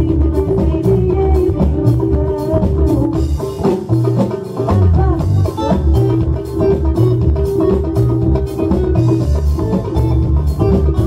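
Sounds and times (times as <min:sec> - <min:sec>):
drum kit: 0:00.0 - 0:11.0
electric bass guitar: 0:00.0 - 0:11.0
keyboard: 0:00.0 - 0:11.0.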